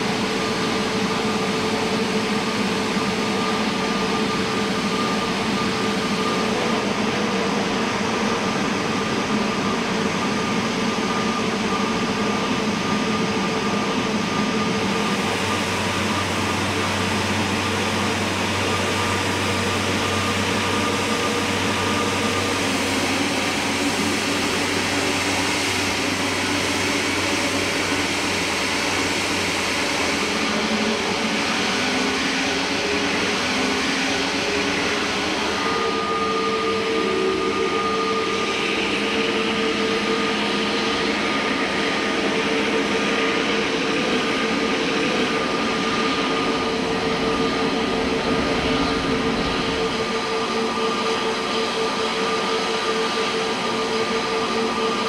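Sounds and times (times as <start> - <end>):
jet engines with high whine: 0.0 - 55.0.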